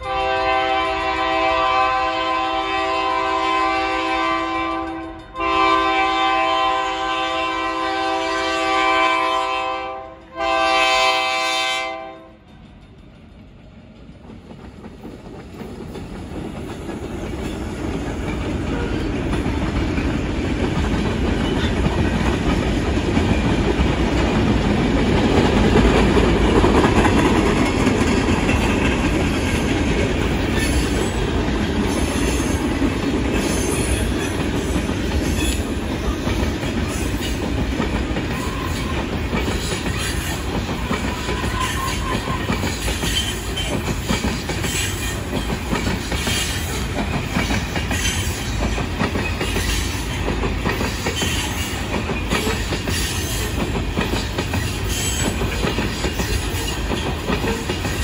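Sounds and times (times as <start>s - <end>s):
low train rumble: 0.0s - 58.0s
train wheels clacking over rails: 7.9s - 58.0s.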